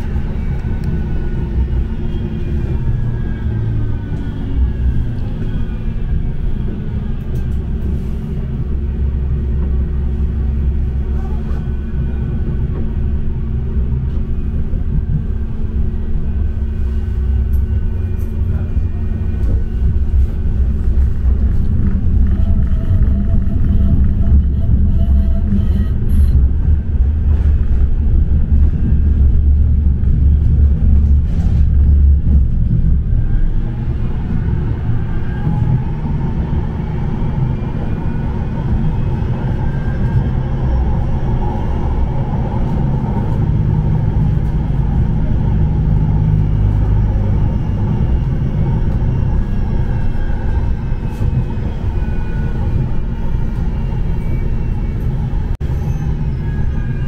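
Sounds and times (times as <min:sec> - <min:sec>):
tram wheels rumbling on rail: 0:00.0 - 0:57.0.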